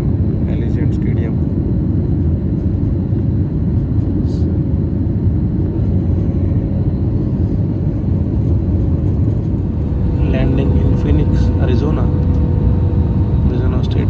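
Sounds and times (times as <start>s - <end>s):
faint hum: 0.0s - 14.0s
jet engines and rushing air: 0.0s - 14.0s.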